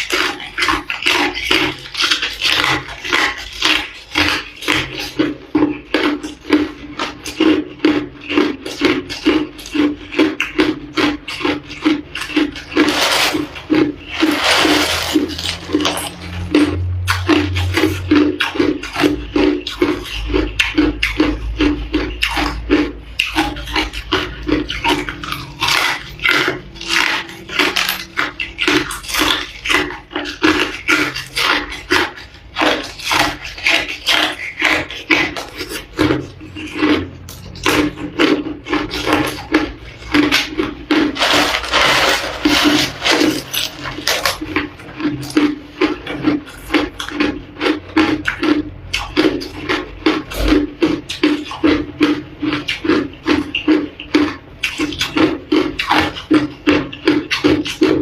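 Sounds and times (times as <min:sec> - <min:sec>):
ice being chewed and crunched: 0:00.0 - 0:58.0.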